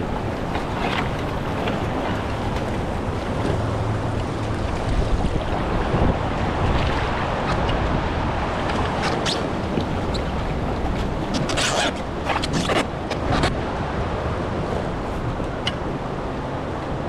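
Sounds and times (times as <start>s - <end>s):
river water rushing and splashing: 0.0s - 17.0s
wind buffeting microphone: 0.0s - 17.0s.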